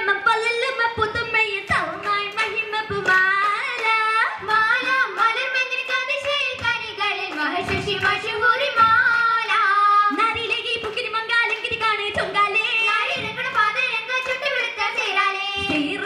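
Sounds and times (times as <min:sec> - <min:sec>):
girls singing through microphones: 0:00.0 - 0:16.0.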